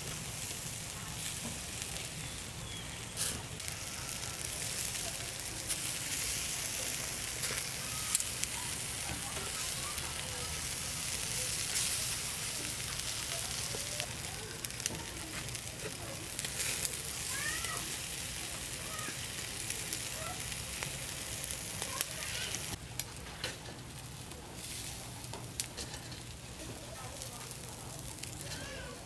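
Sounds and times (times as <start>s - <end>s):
meat sizzling on a grill: 0.0s - 29.0s.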